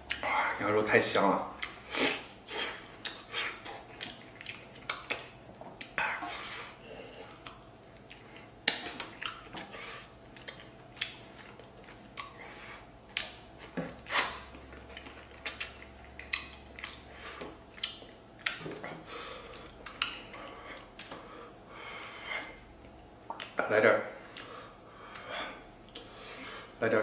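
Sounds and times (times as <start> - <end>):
chewing: 1.4 - 26.7.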